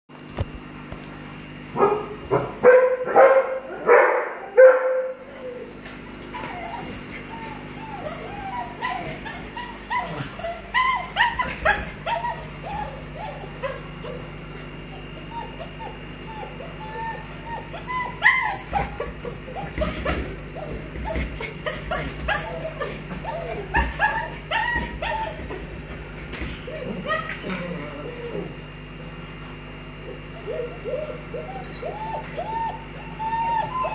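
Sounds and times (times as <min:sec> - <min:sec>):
puppies barking: 0:01.7 - 0:28.5, 0:29.9 - 0:33.9
puppies yelping and whining: 0:05.0 - 0:28.8, 0:29.9 - 0:33.9.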